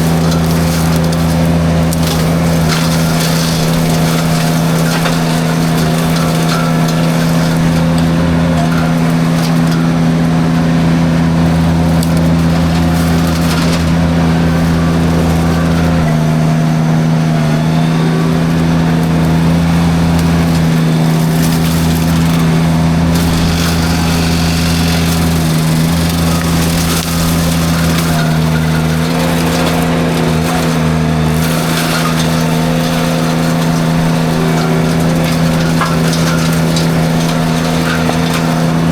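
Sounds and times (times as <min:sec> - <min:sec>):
drum mulcher cutting brush: 0:00.0 - 0:38.9
mini skid steer engine running: 0:00.0 - 0:38.9.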